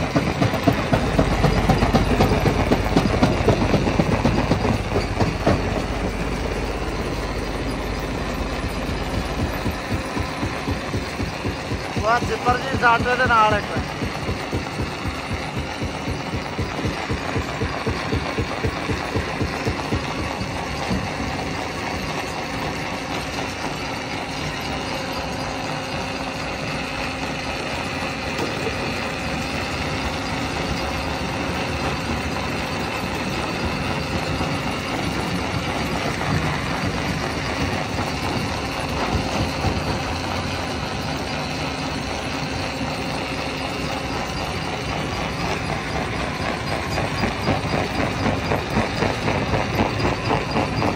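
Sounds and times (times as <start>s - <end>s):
stone crusher machinery drone: 0.0s - 50.9s.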